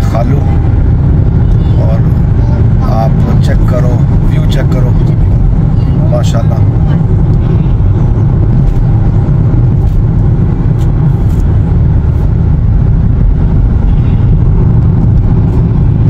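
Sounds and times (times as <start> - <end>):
van road and engine rumble: 0.0 - 16.0.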